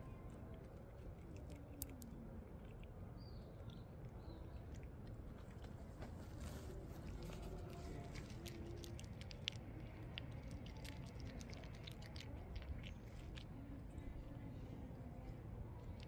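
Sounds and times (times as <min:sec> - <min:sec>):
cat crunching dry kibble: 0:00.3 - 0:16.0.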